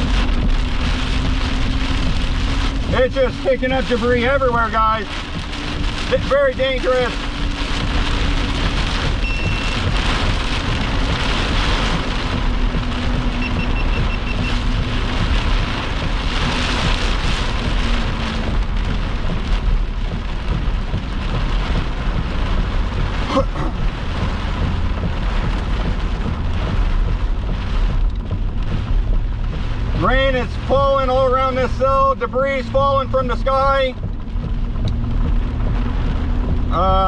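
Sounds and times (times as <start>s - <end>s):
heavy rain on vehicle roof: 0.0s - 37.0s
low vehicle rumble: 0.0s - 37.0s.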